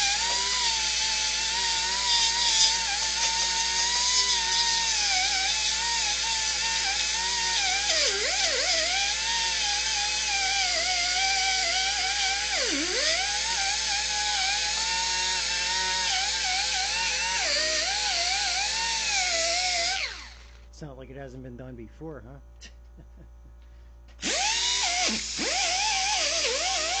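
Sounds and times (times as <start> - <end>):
electric drill drilling metal: 0.0 - 20.6, 24.2 - 27.0.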